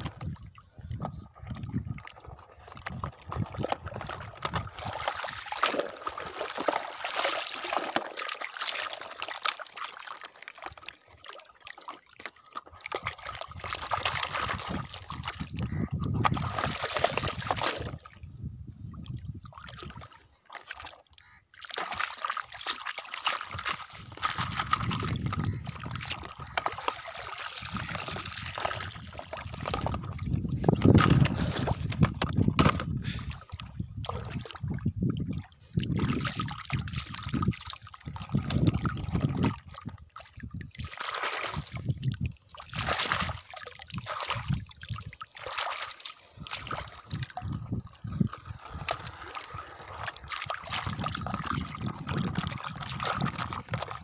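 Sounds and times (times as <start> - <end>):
muddy water splashing: 0.0 - 54.0.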